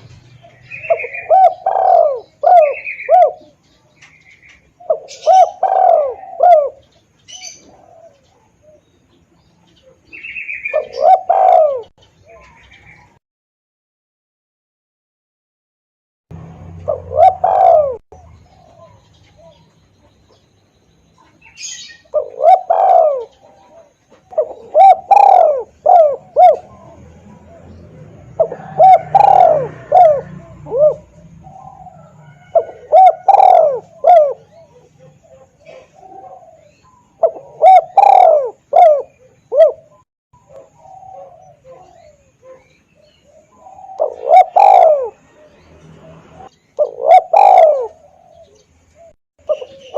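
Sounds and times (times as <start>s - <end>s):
dove cooing: 0.0s - 8.9s, 9.6s - 13.1s, 16.7s - 20.2s, 21.2s - 49.9s.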